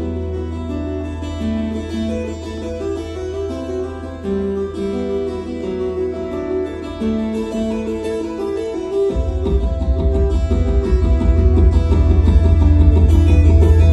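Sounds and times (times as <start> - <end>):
fingerstyle acoustic guitar: 0.0 - 13.9.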